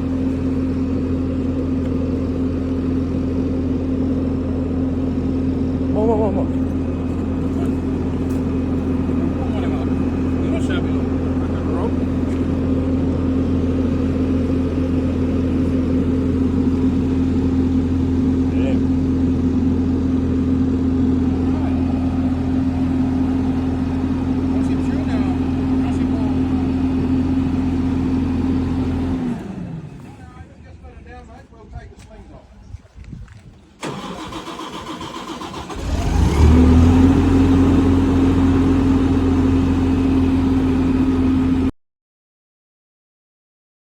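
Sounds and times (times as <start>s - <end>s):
engine running steadily: 0.0s - 41.7s.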